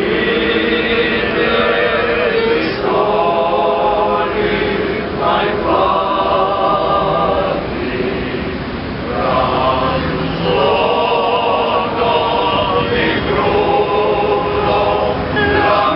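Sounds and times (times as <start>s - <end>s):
group of people singing: 0.0s - 15.9s.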